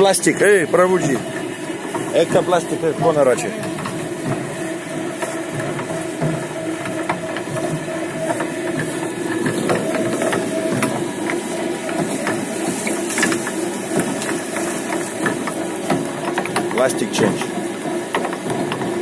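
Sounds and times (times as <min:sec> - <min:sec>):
shredder motor and gear hum: 0:00.0 - 0:19.0
snaps of twigs being shredded: 0:02.0 - 0:18.8.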